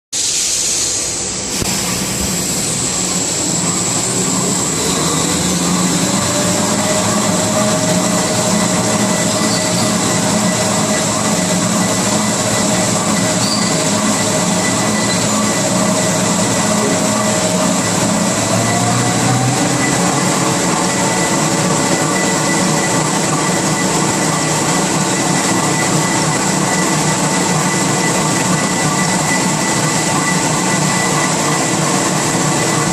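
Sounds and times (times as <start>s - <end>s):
high-pitched whine: 0.2s - 32.9s
wrapping machine whirring: 1.6s - 32.9s.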